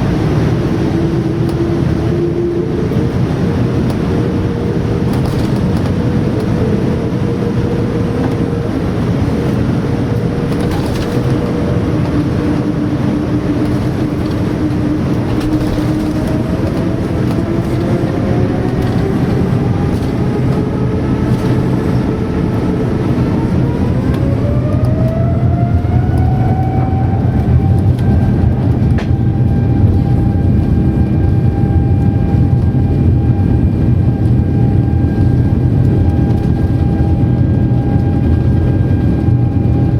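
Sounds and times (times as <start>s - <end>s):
jet engines spooling up: 0.0s - 39.9s.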